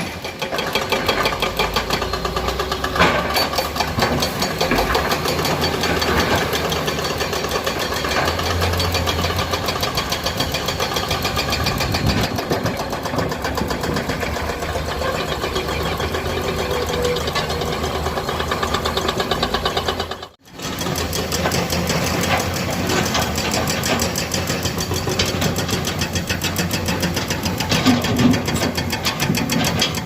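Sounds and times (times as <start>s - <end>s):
excavator diesel engine knocking: 0.0s - 30.0s.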